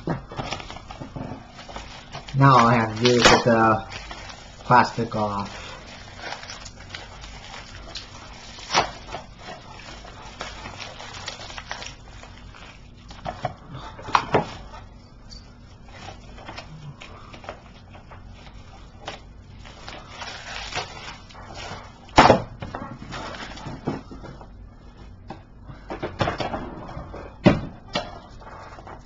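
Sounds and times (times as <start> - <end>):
plastic wrap crinkling: 0.0 - 25.3.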